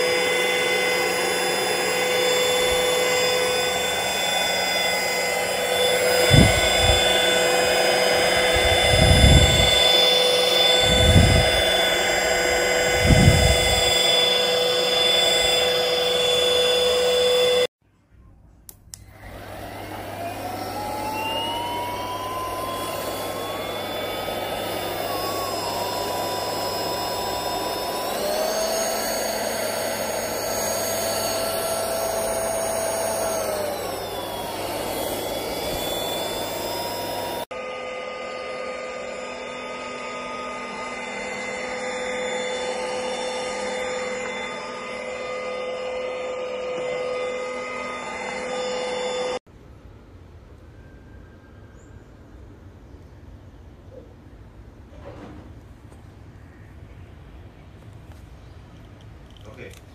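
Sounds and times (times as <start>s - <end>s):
vacuum cleaner motor whine: 0.0s - 17.7s, 18.9s - 49.5s.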